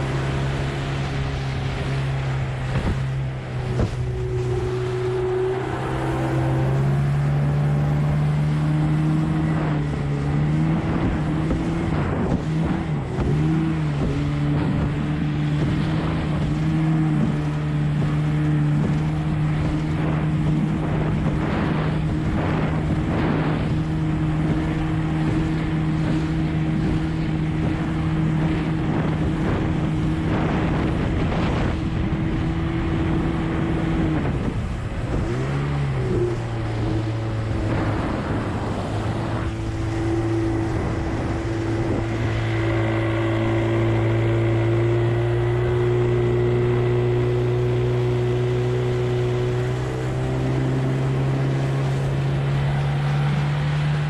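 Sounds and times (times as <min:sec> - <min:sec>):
outboard motor running: 0:00.0 - 0:54.0
wind: 0:00.0 - 0:54.0.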